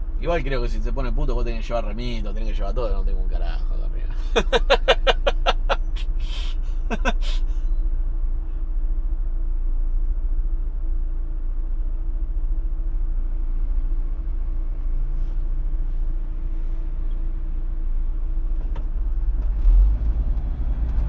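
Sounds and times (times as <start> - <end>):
van engine idling: 0.0 - 19.4.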